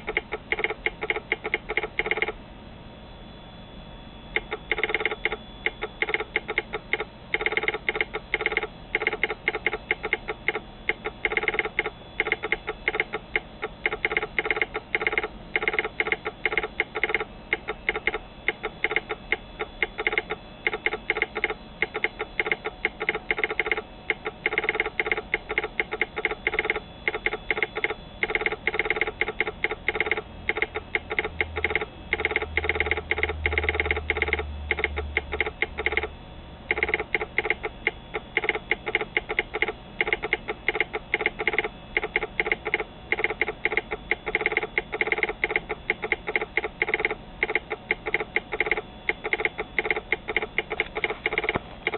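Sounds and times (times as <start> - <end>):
telegraph sounder clacking: 0.0 - 2.4, 4.4 - 36.1, 36.7 - 51.9.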